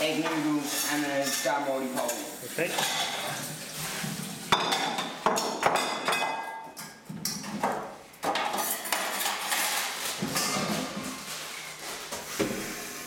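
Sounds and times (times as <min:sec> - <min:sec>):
metal kitchenware clanking: 0:00.0 - 0:07.6, 0:08.2 - 0:11.2.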